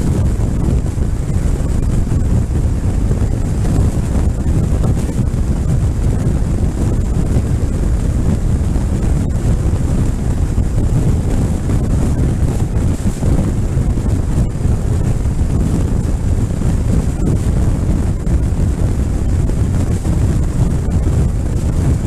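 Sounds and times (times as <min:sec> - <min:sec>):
road and engine noise: 0:00.0 - 0:22.0
wind buffeting microphone: 0:00.0 - 0:22.0.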